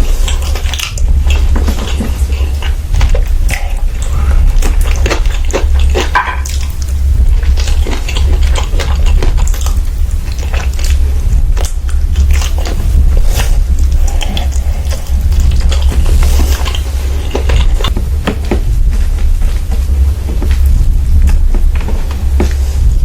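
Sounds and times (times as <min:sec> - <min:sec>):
chewing and mouth noises: 0:00.0 - 0:18.9
steady low hum: 0:00.0 - 0:23.0.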